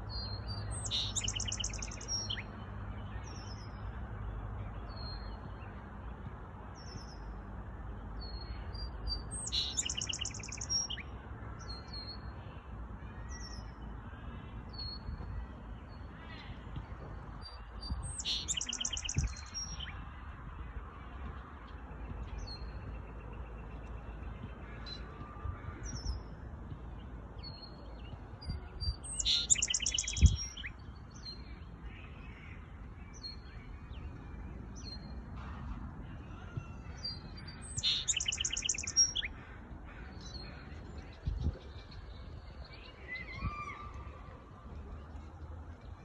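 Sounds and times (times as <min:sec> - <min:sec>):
songbird chirping and trilling: 0:00.0 - 0:05.8, 0:08.2 - 0:20.1, 0:21.6 - 0:46.0.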